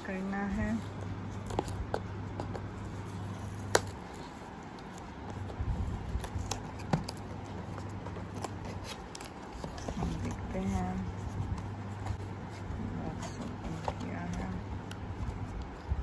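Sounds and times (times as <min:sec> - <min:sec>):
steady low hum: 0:00.0 - 0:16.0
fingers tapping and scratching cardboard: 0:01.2 - 0:16.0.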